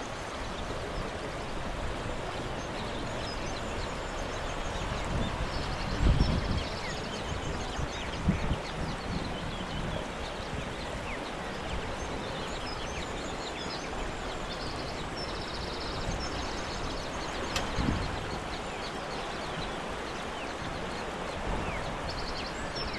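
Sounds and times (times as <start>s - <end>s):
small birds chirping and trilling: 0.0s - 22.9s
steady rushing outdoor noise: 0.0s - 22.9s.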